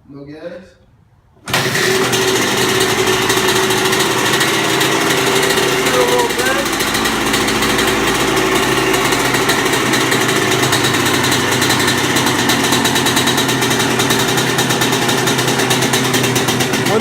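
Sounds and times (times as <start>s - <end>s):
two-stroke dirt bike engine idling: 1.5s - 17.0s.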